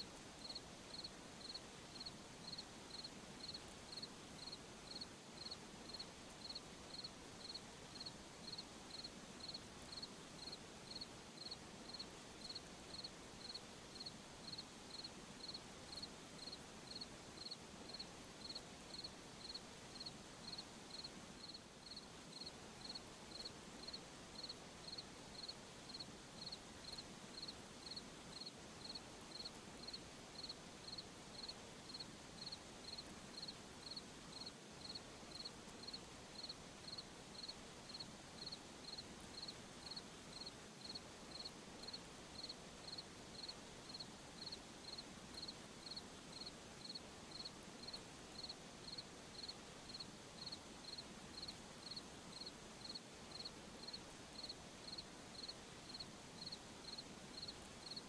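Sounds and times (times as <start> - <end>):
faint steady hiss: 0.0 - 58.0
cricket chirping: 0.4 - 58.0.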